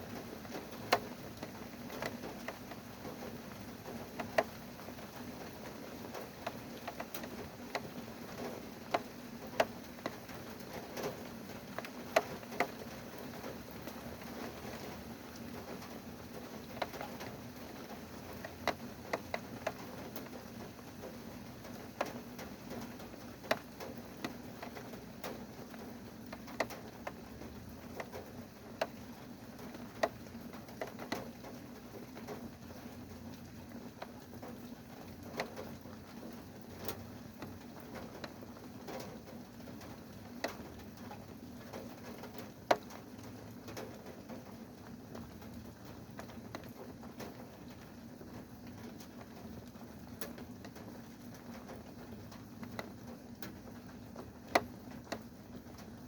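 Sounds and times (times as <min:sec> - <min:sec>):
raindrops tapping a hard surface: 0:00.0 - 0:56.0
steady rain hiss: 0:00.0 - 0:56.0.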